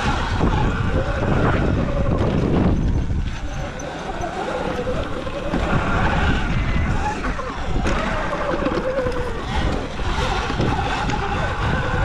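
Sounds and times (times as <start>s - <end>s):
electric motorbike whine: 0.0s - 12.0s
wind buffeting microphone: 0.0s - 12.0s.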